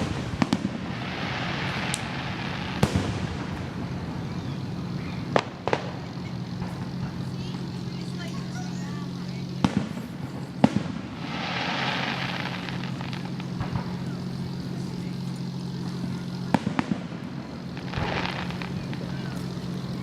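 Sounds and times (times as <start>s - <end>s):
firework bangs: 0.0s - 20.0s
firework hissing crackle: 0.0s - 20.0s
low hum: 0.0s - 20.0s.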